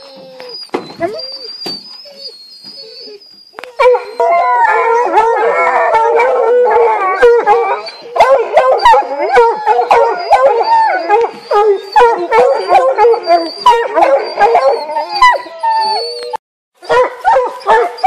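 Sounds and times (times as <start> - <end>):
hounds bawling and howling: 0.0 - 18.0.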